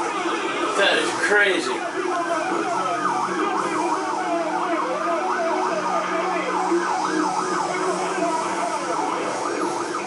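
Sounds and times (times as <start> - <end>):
police sirens yelping: 0.0 - 10.0.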